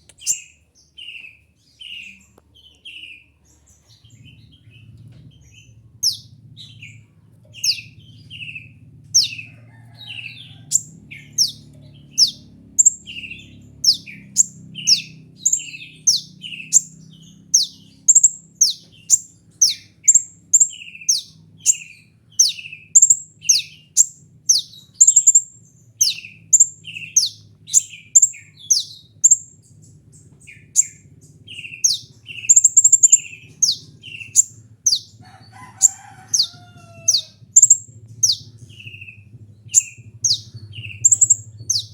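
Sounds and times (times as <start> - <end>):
faint low hum: 0.0 - 41.9
sunbird calling: 5.6 - 41.9.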